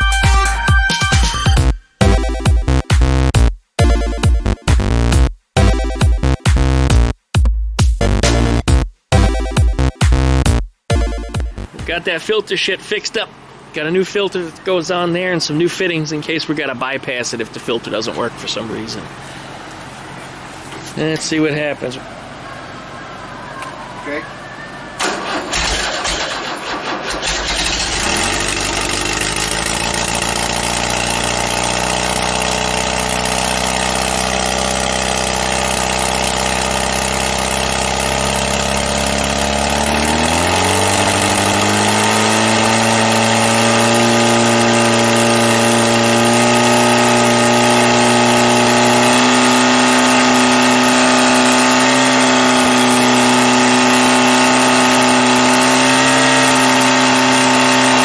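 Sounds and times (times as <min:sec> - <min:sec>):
air-cooled engine cranking and idling: 0:11.4 - 0:58.0.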